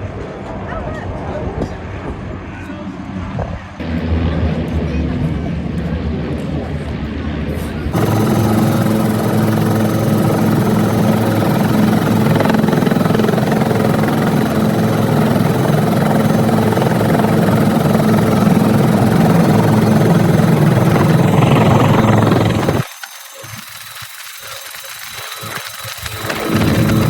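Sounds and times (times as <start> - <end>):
aircraft engine drone: 1.8 - 27.0.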